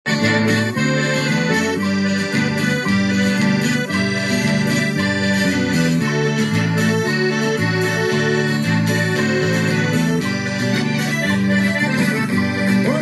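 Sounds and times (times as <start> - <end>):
accordion playing melody: 0.0 - 13.0
bass line: 0.1 - 13.0.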